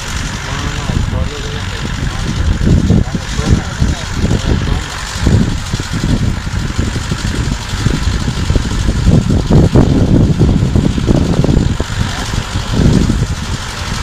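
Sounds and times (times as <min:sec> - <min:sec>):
tractor engine running: 0:00.0 - 0:14.0
uneven low rumble: 0:00.0 - 0:14.0.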